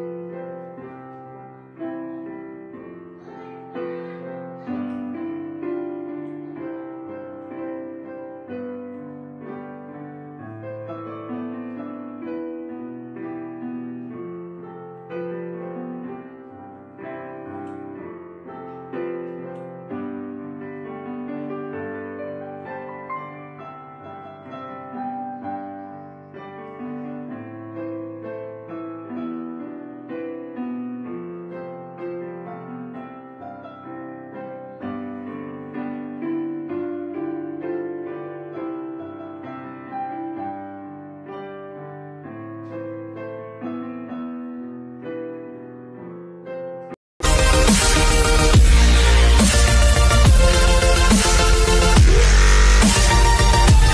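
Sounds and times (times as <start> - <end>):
soft piano music: 0.0 - 47.0.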